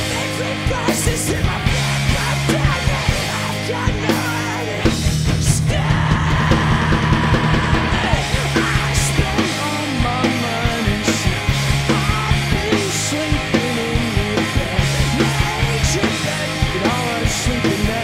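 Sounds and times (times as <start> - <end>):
drums: 0.0 - 18.0
electric guitar riffing: 0.0 - 18.0.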